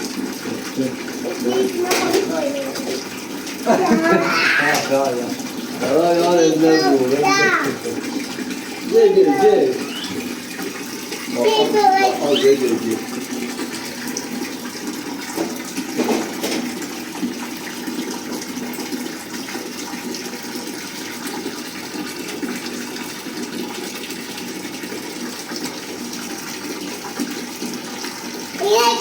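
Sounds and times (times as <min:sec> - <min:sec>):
water running: 0:00.0 - 0:29.0.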